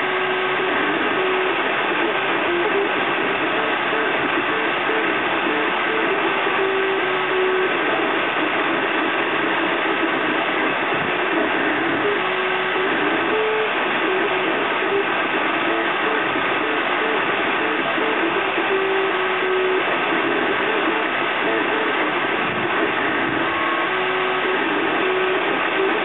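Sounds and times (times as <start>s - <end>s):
cooling fans rushing: 0.0s - 26.0s
stepper motors singing tones: 0.0s - 26.0s.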